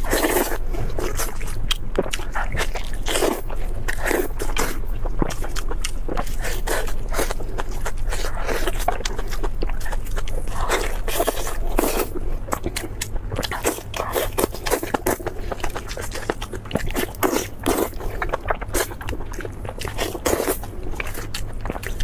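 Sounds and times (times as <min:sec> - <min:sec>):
person chewing crispy food: 0:00.0 - 0:22.0.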